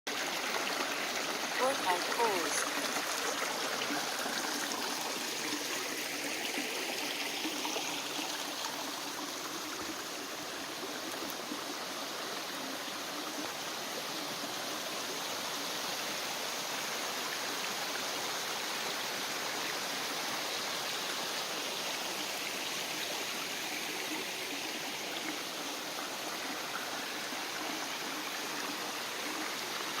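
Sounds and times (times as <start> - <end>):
stream flowing water: 0.1 - 30.0.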